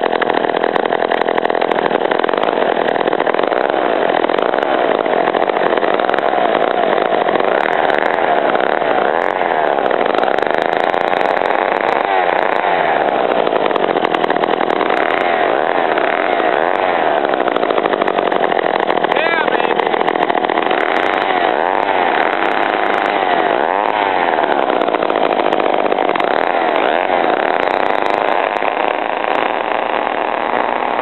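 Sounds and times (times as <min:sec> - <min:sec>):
chainsaw engine running: 0:00.0 - 0:31.0.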